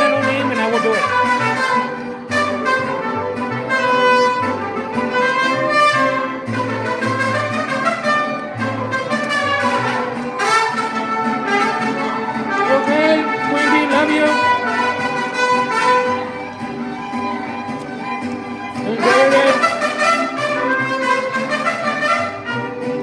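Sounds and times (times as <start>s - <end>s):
music with horns and strings: 0.0s - 23.0s.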